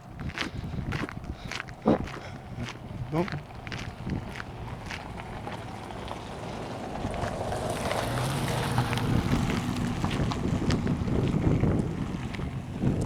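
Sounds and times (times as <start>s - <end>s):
motor engine droning: 0.0s - 13.0s
wind buffeting microphone: 0.0s - 13.0s.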